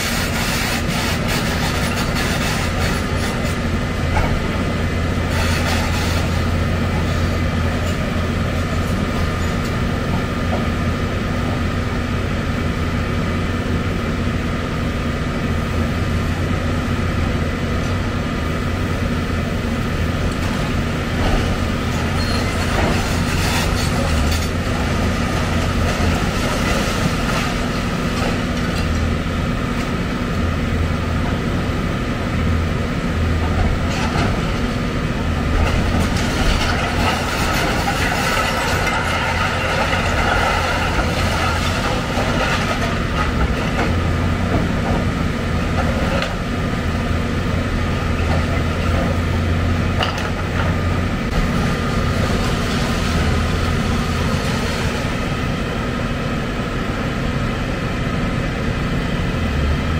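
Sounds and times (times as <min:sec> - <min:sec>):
excavator diesel engine humming: 0:00.0 - 0:59.9.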